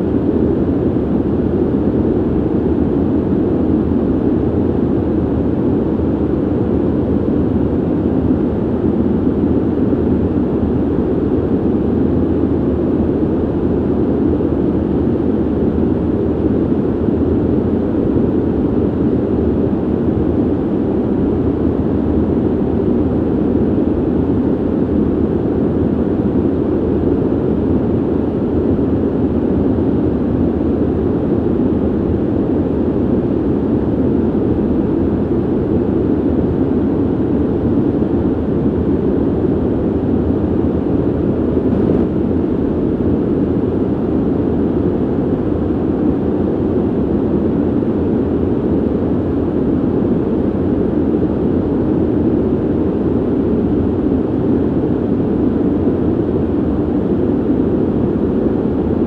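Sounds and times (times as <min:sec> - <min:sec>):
low rush of ventilation air: 0:00.0 - 0:59.0.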